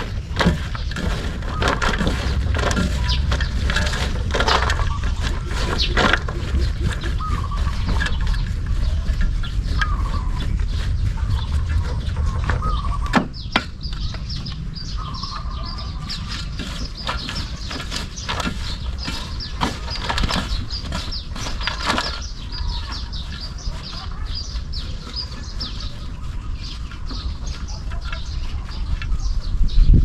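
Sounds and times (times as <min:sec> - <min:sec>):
low steady rumble: 0:00.0 - 0:30.0
small birds chirping: 0:00.0 - 0:30.0.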